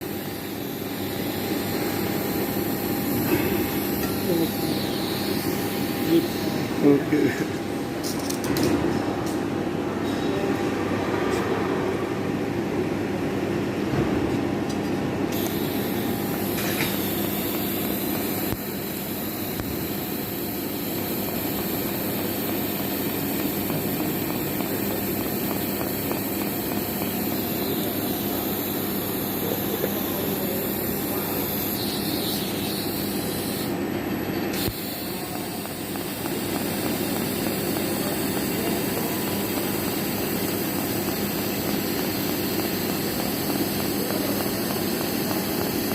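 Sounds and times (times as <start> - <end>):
machine hiss: 0.0 - 7.5, 15.3 - 33.8, 34.5 - 45.9
machine humming: 0.0 - 10.0, 15.0 - 45.9.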